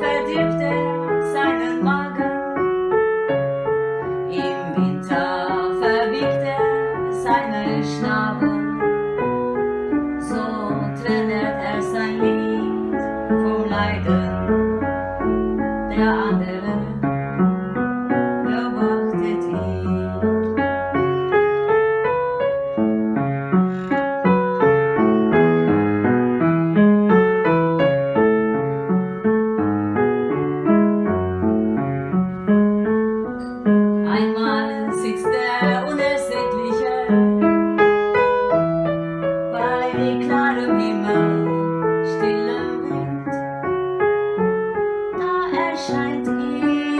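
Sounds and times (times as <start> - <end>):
piano music: 0.0 - 46.9.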